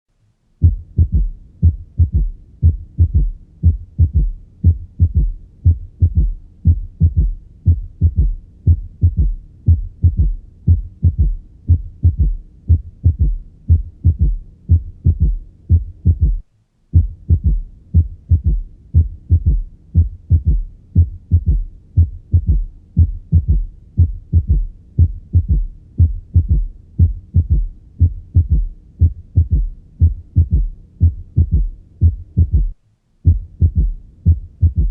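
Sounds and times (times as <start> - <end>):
heartbeat thumps through stethoscope: 0.6 - 34.9.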